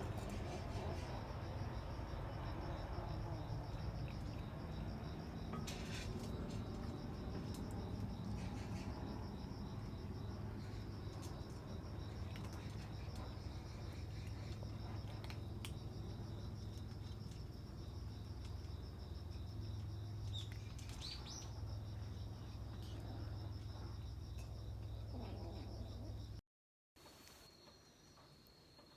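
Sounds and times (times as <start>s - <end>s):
crickets trilling: 0.0s - 26.4s.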